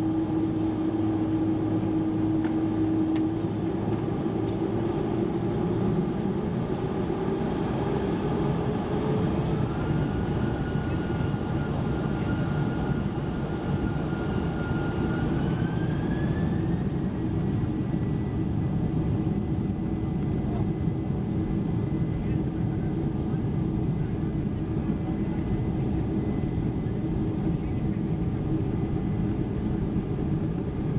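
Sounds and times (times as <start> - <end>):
jet engines roaring in cabin: 0.0 - 30.9.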